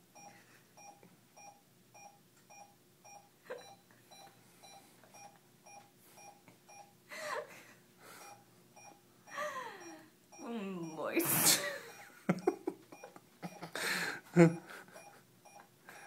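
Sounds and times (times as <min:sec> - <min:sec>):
heart monitor beeping: 0:00.1 - 0:07.0, 0:08.1 - 0:13.8, 0:14.8 - 0:16.0.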